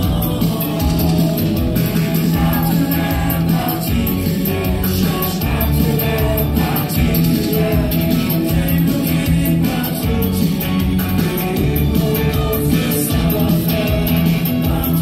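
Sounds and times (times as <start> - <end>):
live band playing: 0.0 - 15.0
male singer singing: 0.0 - 15.0.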